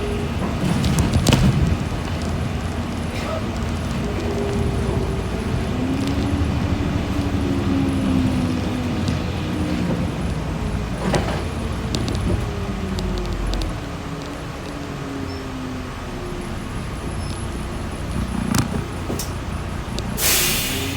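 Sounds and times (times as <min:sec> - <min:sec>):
bus engine hum: 0:00.0 - 0:20.9
rattles and clicks: 0:00.0 - 0:20.9.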